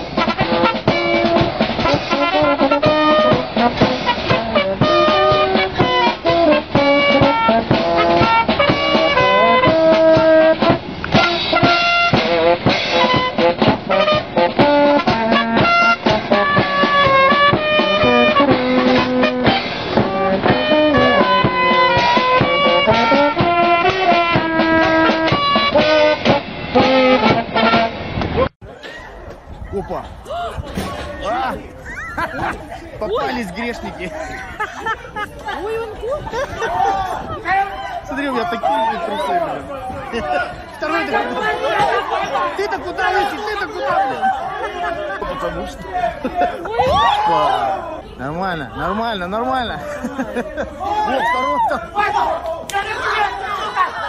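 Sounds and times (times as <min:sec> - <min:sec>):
brass band playing: 0:00.0 - 0:28.5, 0:32.4 - 0:49.8.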